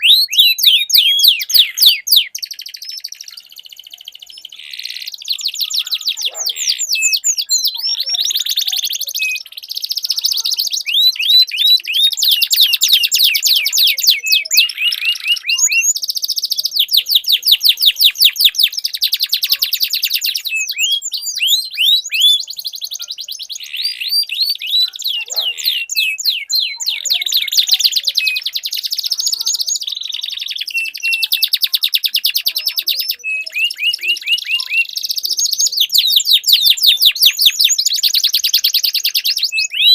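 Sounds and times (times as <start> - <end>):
canaries singing in rapid trills: 0.0 - 39.9.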